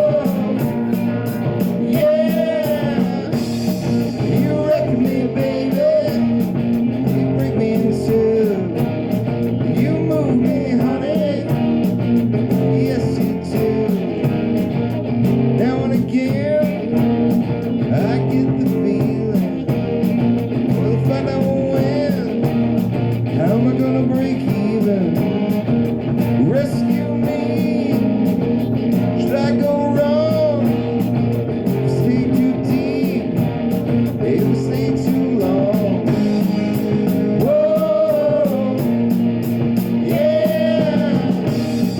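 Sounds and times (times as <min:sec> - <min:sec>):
person singing: 0:00.0 - 0:14.6, 0:15.5 - 0:19.8, 0:20.7 - 0:22.6, 0:23.3 - 0:25.4, 0:26.3 - 0:41.9
bass and drums: 0:00.0 - 0:41.9
electric guitar: 0:00.0 - 0:41.9.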